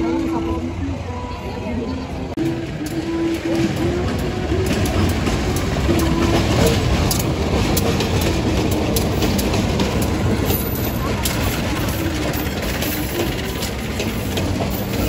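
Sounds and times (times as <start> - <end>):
locomotive engine rumble: 0.0 - 15.0
train wheels clicking over rail joints: 2.4 - 15.0.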